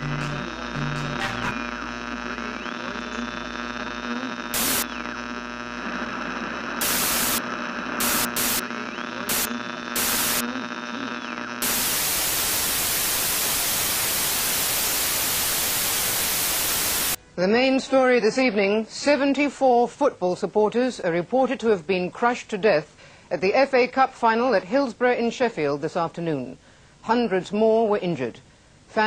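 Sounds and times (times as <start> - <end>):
television static hiss: 0.0 - 29.0.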